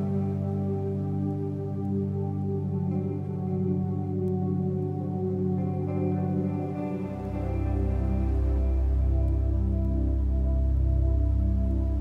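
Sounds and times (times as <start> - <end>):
ambient music with held chords: 0.0 - 12.0.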